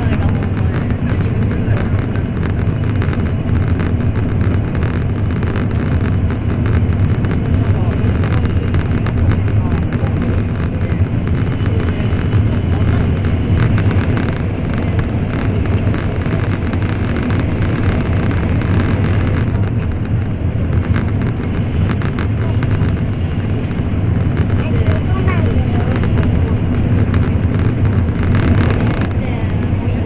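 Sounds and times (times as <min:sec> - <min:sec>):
train low rumble: 0:00.0 - 0:30.0.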